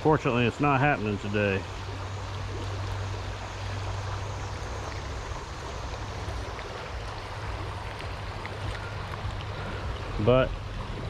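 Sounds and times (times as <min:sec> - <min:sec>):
constant low hum: 0:00.0 - 0:11.0
river water rushing: 0:00.0 - 0:11.0.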